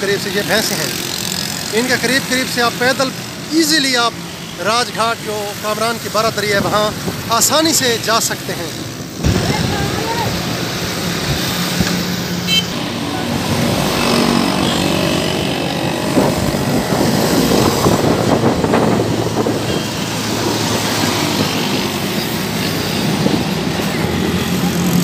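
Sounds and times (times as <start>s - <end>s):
road traffic on a bridge: 0.0s - 25.0s.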